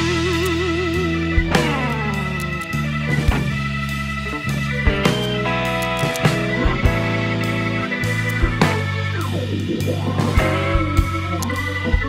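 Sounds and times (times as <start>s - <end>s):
guitar background music: 0.0s - 12.0s
low beats: 0.0s - 12.0s.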